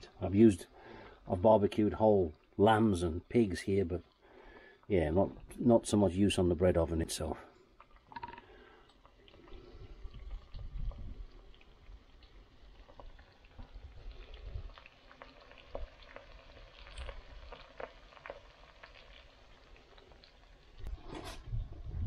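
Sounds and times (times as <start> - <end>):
chicken frying with pops: 0.0 - 21.4.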